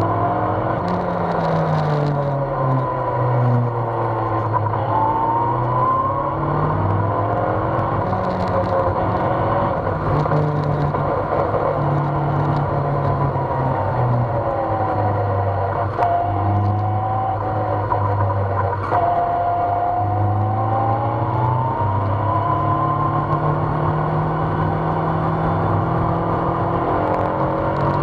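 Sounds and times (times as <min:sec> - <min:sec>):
sports car engine running: 0:00.0 - 0:28.0.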